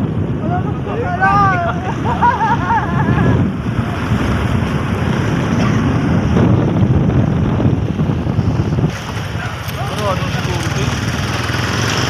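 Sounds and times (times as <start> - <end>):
motorcycle riding noise: 0.0 - 12.0
wind buffeting microphone: 0.0 - 12.0.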